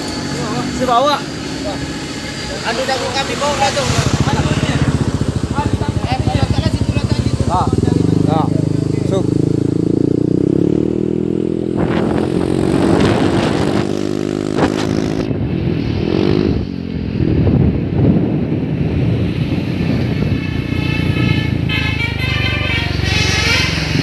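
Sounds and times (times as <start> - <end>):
motorcycles passing: 0.0 - 24.0
trucks passing: 0.0 - 24.0.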